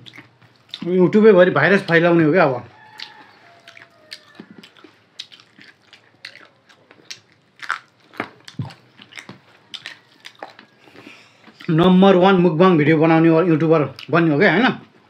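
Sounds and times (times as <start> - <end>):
people chewing food: 0.0 - 12.4, 13.6 - 15.0.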